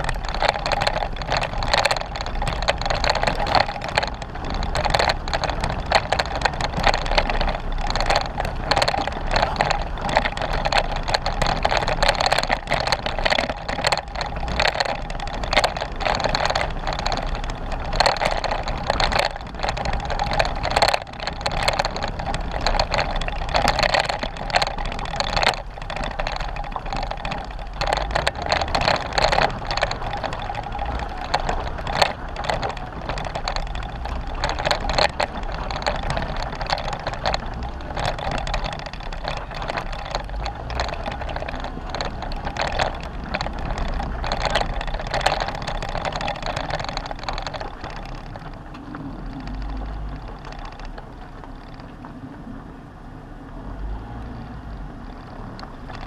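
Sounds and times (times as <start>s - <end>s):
dense rattling and clicking: 0.0s - 52.4s, 54.0s - 56.0s
car engine running low: 0.0s - 56.0s.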